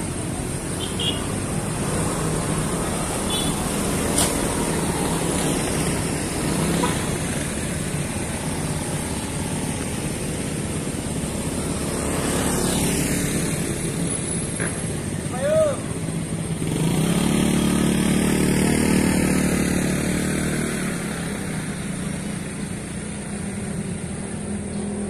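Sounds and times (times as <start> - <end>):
hum of road traffic: 0.0 - 25.0
motor scooters: 0.0 - 25.0
vehicles passing close by: 0.0 - 25.0.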